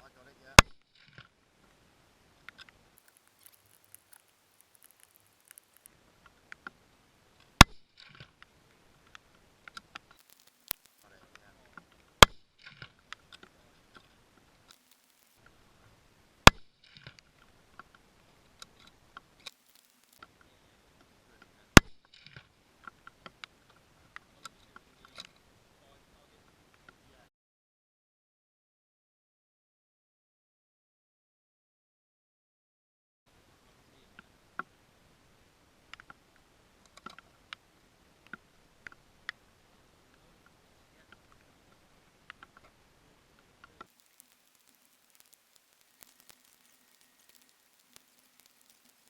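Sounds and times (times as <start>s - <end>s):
faint hiss: 0.0s - 27.3s, 33.3s - 49.0s.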